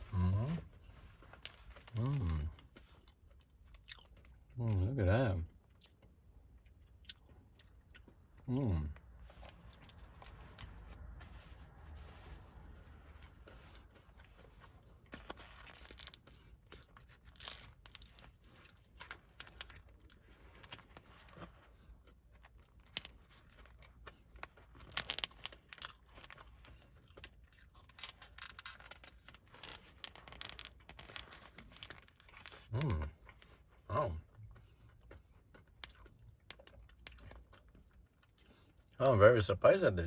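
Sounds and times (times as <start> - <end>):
person chewing crumbly cookie: 0.0 - 39.2.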